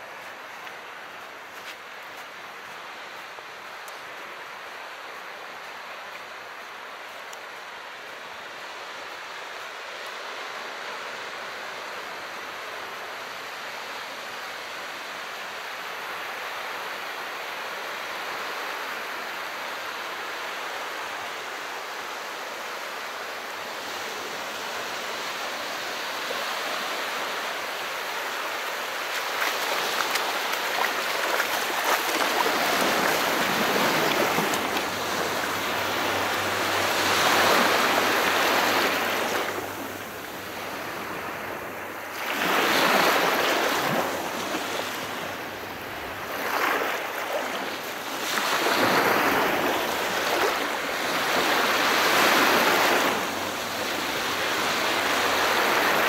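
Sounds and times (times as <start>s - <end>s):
calm sea wash: 0.0s - 56.0s.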